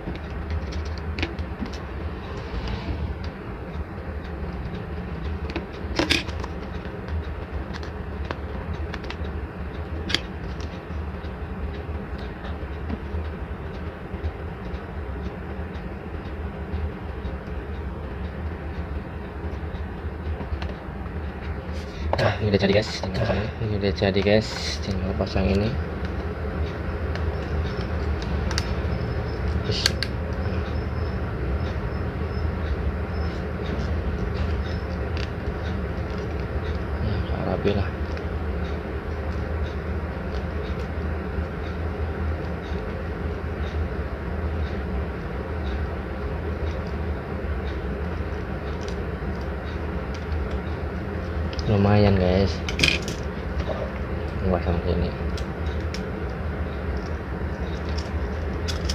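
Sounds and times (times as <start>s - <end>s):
low background rumble: 0.0s - 58.9s
steady low hum: 0.0s - 58.9s.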